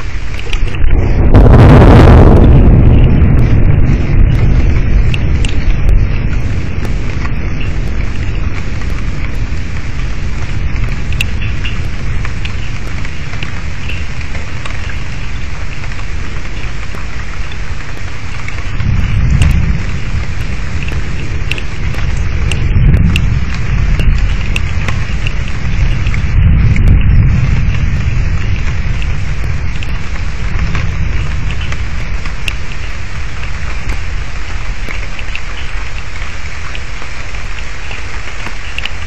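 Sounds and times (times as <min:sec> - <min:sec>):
heavy rain falling: 0:00.0 - 0:39.0
low thunder rumbles: 0:00.0 - 0:39.0
sharp raindrop ticks: 0:00.0 - 0:39.0.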